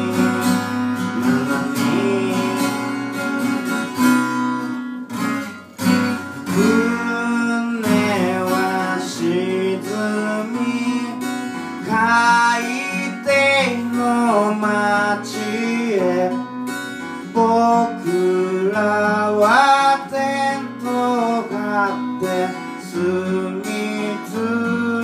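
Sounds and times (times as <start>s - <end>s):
person singing: 0.0s - 4.0s, 6.4s - 25.0s
strummed acoustic guitar: 0.0s - 25.0s.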